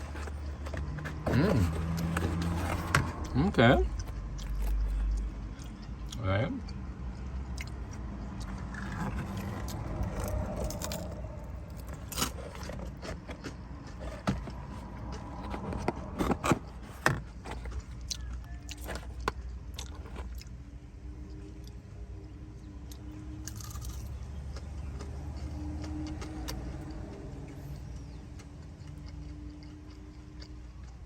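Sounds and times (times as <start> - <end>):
clicks and scrapes handling food: 0.0 - 6.0, 6.7 - 20.6, 22.9 - 31.0
person chewing crunchy food: 0.0 - 21.8, 22.9 - 31.0.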